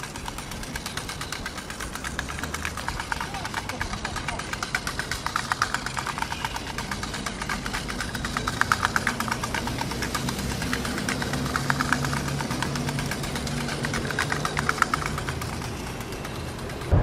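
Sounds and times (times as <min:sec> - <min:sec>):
engine knocking: 0:00.0 - 0:17.0
steady low hum: 0:00.0 - 0:17.0.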